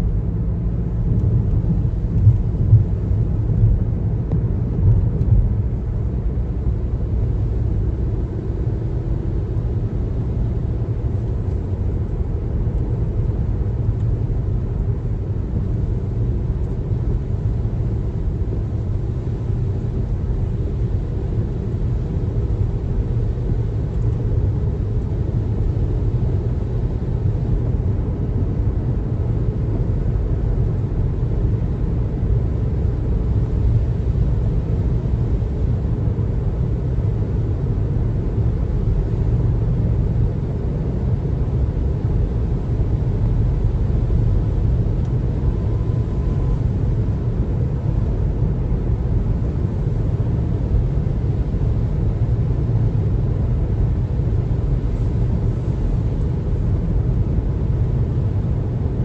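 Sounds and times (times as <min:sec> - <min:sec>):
car tyre and road noise: 0:00.0 - 0:59.0.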